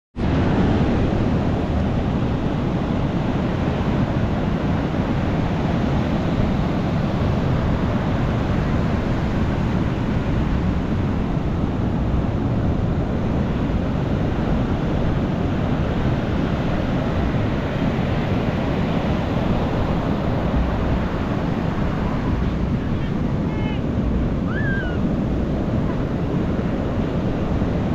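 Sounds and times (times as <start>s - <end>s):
waves breaking on a beach: 0.2s - 27.9s.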